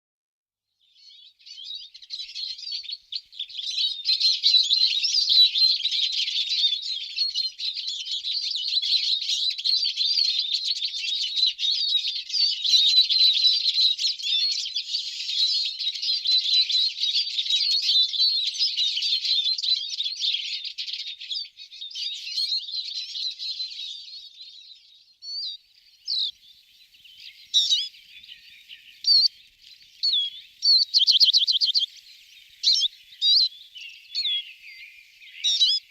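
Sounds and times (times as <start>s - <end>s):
small birds chirping: 0.7s - 35.9s.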